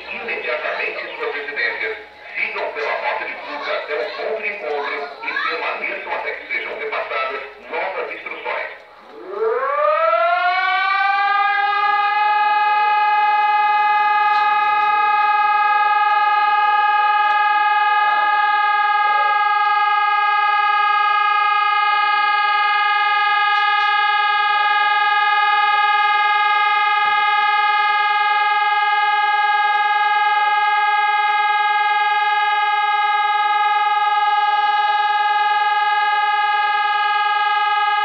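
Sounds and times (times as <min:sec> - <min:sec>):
warning siren winding up: 0:02.5 - 0:38.0.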